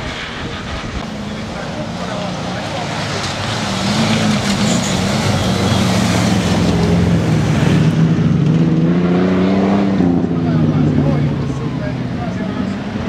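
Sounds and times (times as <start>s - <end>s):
off-road vehicle engine under load: 1.0s - 13.0s.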